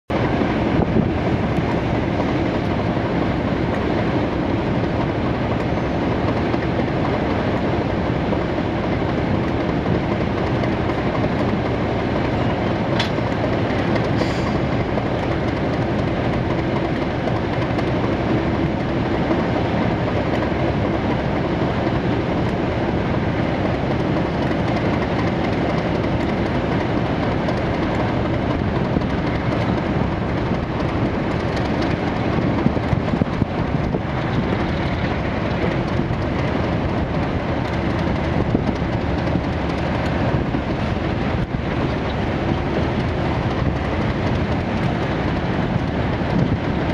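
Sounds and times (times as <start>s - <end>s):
diesel locomotive engine: 0.1s - 46.9s
wheels running over rails: 0.1s - 46.9s.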